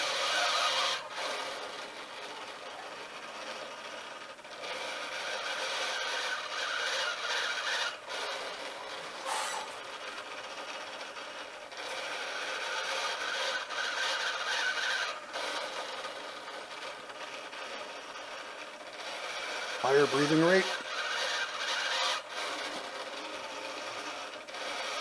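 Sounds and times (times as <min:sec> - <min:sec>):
servo motor running: 0:00.0 - 0:25.0.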